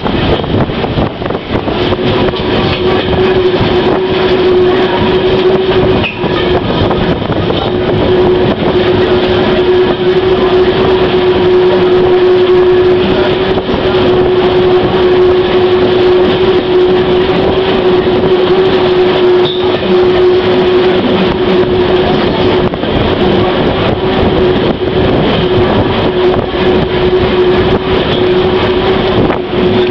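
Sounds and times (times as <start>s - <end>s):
constant humming tone: 0.0s - 29.9s
train rolling rail noise: 0.0s - 29.9s.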